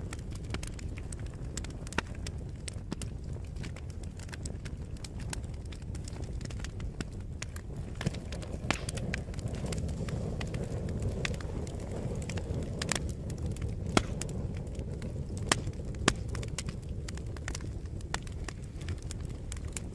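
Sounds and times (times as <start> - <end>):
burning wood crackling: 0.0 - 19.9
fire roaring: 0.0 - 19.9.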